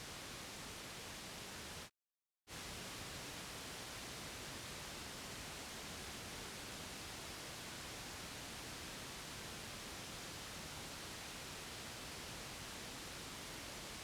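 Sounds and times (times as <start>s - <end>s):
white noise hiss: 0.0s - 1.9s, 2.5s - 14.0s.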